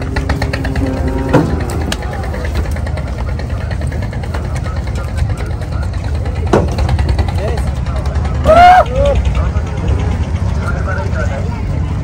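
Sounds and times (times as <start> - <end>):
engine idling: 0.0 - 12.0
people talking: 0.0 - 12.0.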